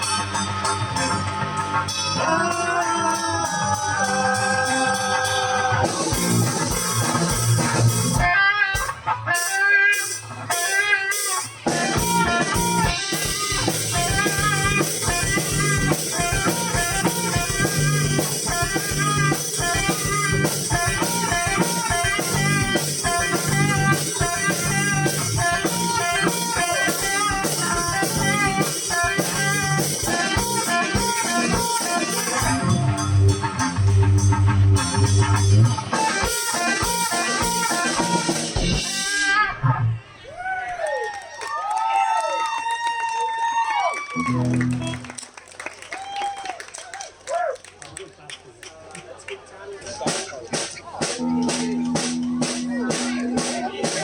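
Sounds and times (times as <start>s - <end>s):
drum kit: 0.0s - 39.4s, 50.0s - 54.0s
electric guitar: 0.0s - 40.2s, 44.1s - 45.3s, 51.2s - 54.0s.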